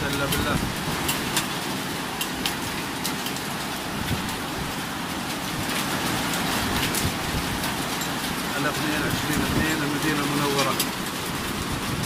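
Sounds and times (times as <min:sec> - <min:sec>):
heavy rain falling: 0:00.0 - 0:12.0
sharp ticks of raindrops: 0:00.0 - 0:12.0.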